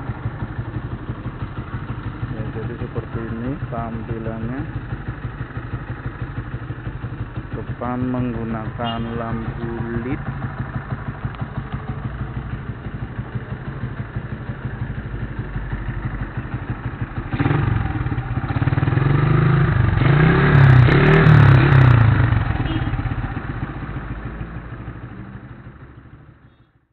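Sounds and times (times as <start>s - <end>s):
motorcycle engine idling and revving: 0.0s - 26.8s.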